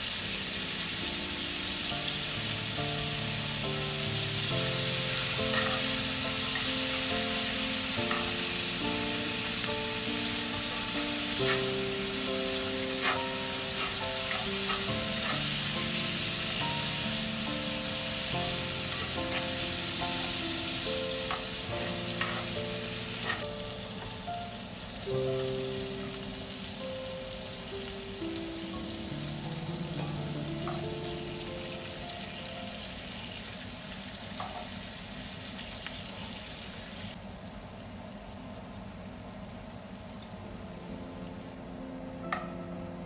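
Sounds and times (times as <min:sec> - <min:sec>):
soft background music: 0:00.0 - 0:33.5, 0:40.4 - 0:43.0
asparagus sizzling in oil: 0:00.0 - 0:41.5.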